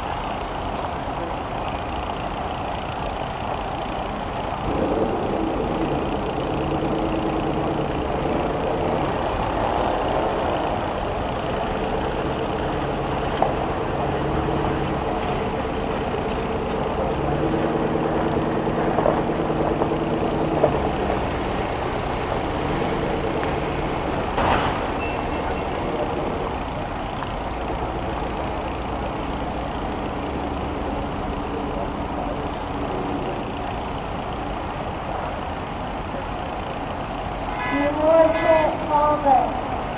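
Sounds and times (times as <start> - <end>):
bus engines revving: 0.0 - 39.9.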